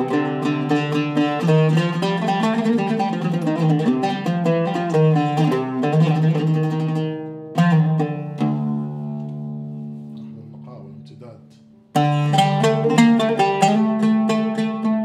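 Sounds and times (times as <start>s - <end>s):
oud plucked notes: 0.0s - 15.0s.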